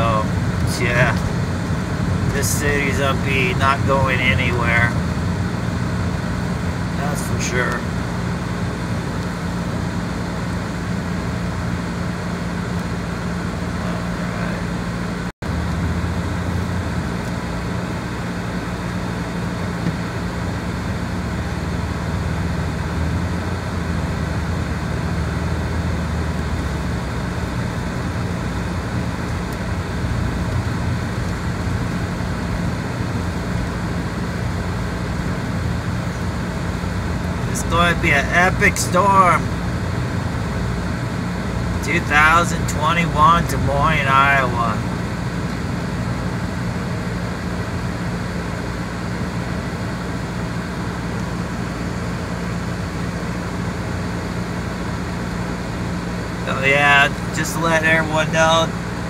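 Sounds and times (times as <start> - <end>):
car engine and tyre hum: 0.0 - 59.0.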